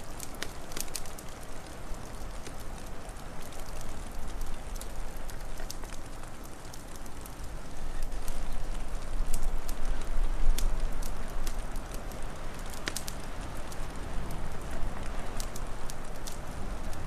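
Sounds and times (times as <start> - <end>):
wind rumble and hiss: 0.0 - 17.0
wood fire crackling: 0.0 - 17.0.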